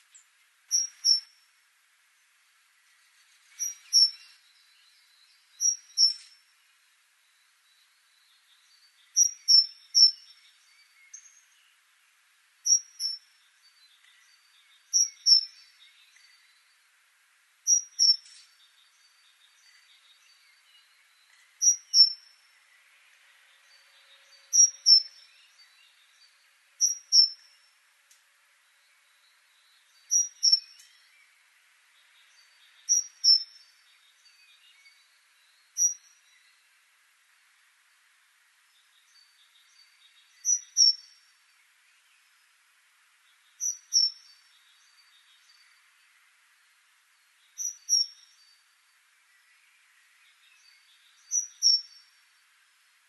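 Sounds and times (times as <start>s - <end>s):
faint background hiss: 0.0s - 53.0s.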